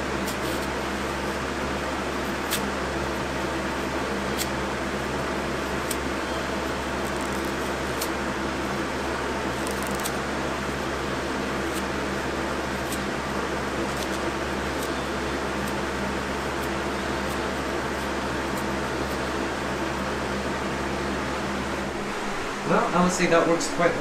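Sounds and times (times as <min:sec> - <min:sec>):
box fan running: 0:00.0 - 0:24.0.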